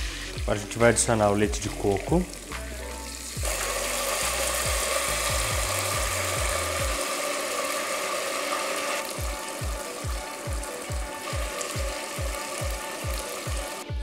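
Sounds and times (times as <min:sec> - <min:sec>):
background music with bass beat: 0:00.0 - 0:07.0, 0:09.1 - 0:14.0
liquid poured into hot pan sizzling: 0:02.1 - 0:13.9.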